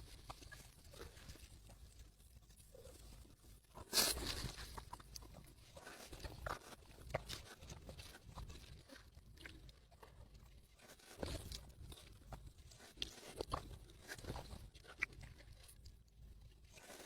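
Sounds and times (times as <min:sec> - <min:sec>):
crunchy chewing: 0:02.6 - 0:17.0.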